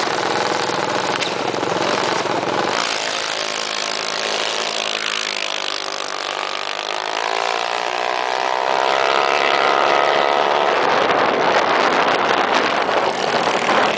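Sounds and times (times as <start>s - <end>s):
minibike engine revving: 0.0s - 13.9s.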